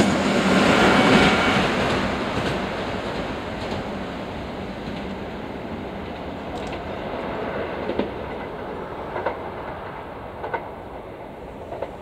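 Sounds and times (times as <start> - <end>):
train rolling over rails: 0.0 - 12.0.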